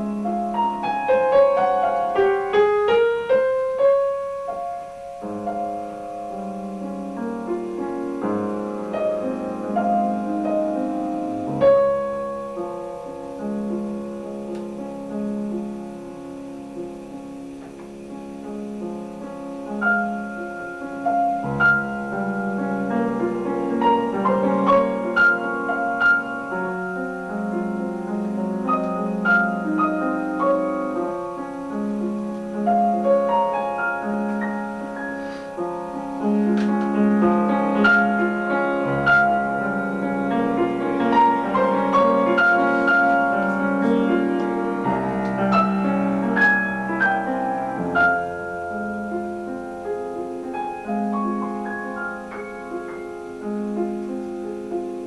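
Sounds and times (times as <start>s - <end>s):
piano piece: 0.0s - 55.0s.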